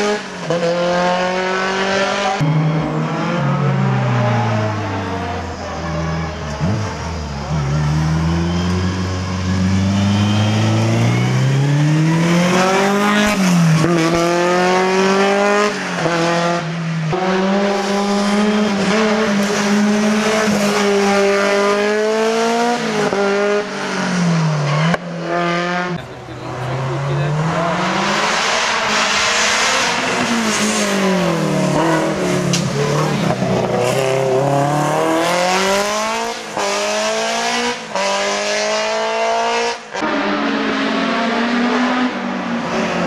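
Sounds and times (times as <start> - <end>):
race car engine accelerating: 0.0 - 43.0.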